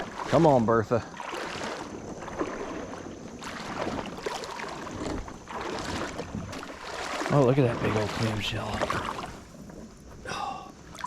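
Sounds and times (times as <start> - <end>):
water sloshing around kayak: 0.0 - 11.0.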